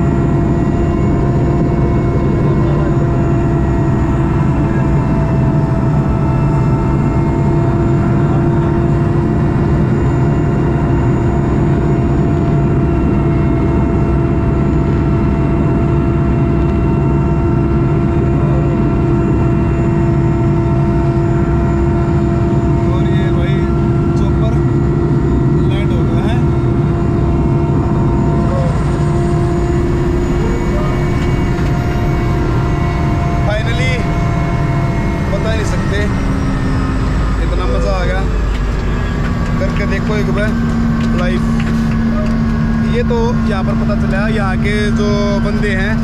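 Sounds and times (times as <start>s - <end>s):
constant whine: 0.0s - 46.0s
helicopter engine and rotor drone: 0.0s - 46.0s.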